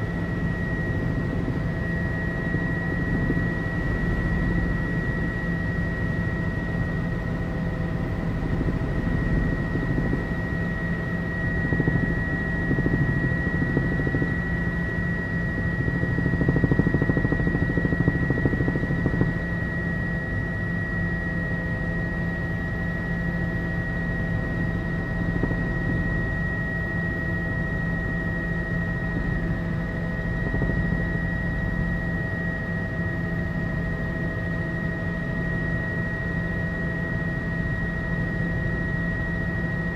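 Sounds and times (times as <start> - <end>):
helicopter cabin whine: 0.0 - 39.9
helicopter engine and rotor drone: 0.0 - 39.9.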